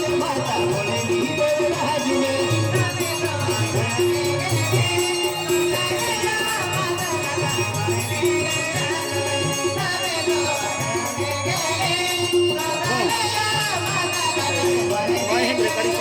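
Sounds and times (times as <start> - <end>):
jingling rattling percussion: 0.0 - 16.0.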